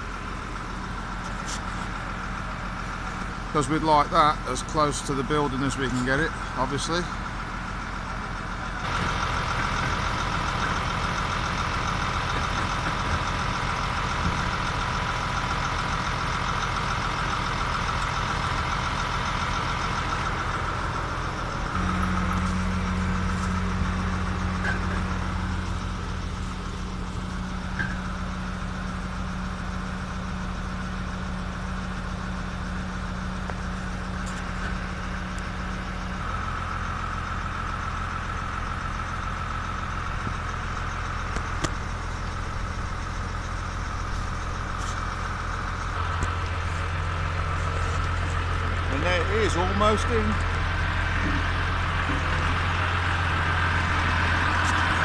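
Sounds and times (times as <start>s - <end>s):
crane engine and hydraulics whine: 0.0s - 55.0s.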